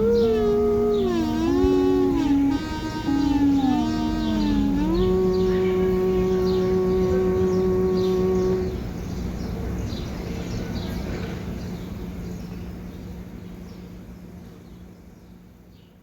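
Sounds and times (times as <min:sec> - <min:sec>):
low steady hum: 0:00.0 - 0:14.4
small birds chirping: 0:00.0 - 0:16.0.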